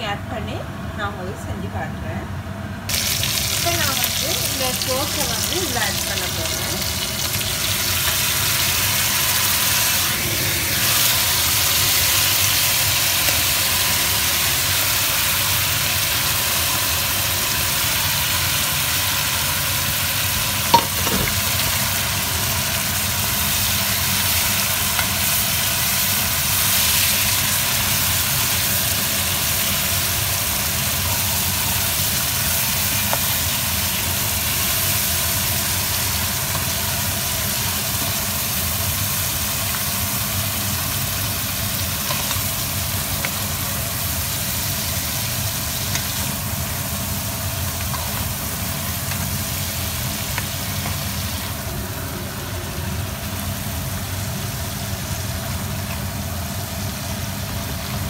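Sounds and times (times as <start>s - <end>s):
seafood sizzling in a pan: 2.9s - 58.0s.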